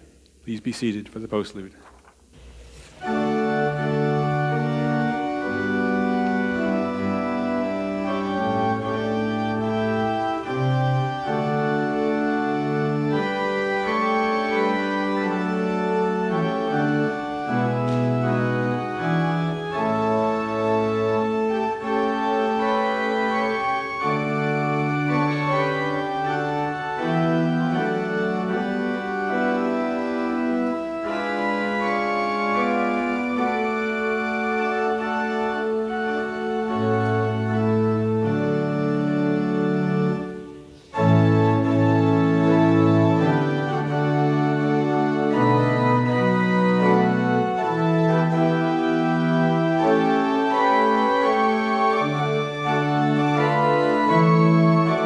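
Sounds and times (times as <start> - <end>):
pipe organ chords: 0.0 - 55.0.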